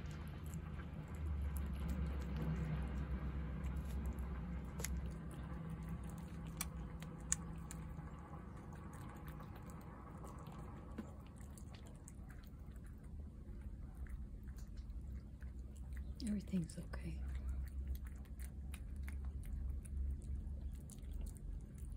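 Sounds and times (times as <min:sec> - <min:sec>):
cat chewing wet food: 0:00.0 - 0:21.9
low background hum: 0:00.0 - 0:21.9.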